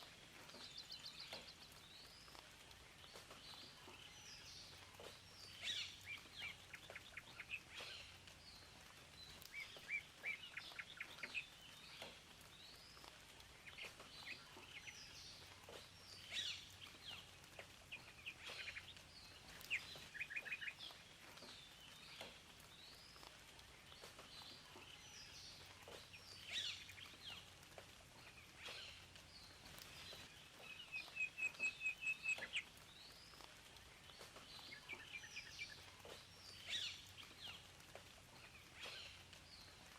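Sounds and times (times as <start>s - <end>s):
wild birds singing and calling: 0.0s - 39.9s.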